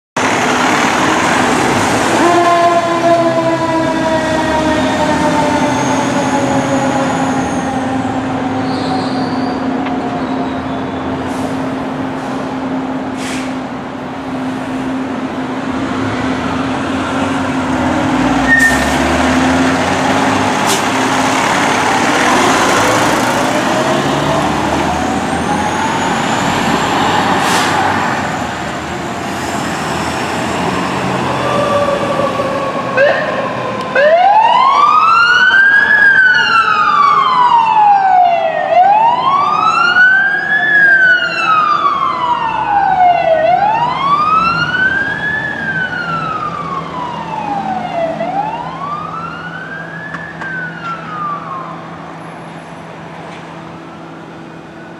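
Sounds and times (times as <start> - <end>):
fire engine sirens wailing: 0.2 - 54.9
truck engines: 0.2 - 54.9.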